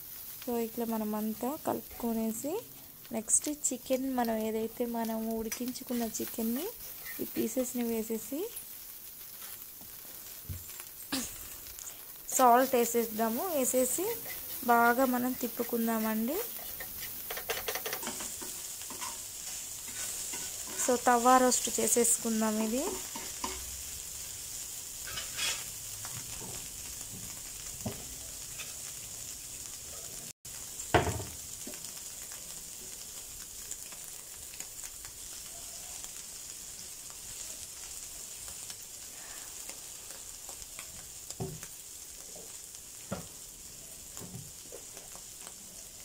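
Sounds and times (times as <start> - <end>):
food sizzling in oil: 0.0 - 46.0.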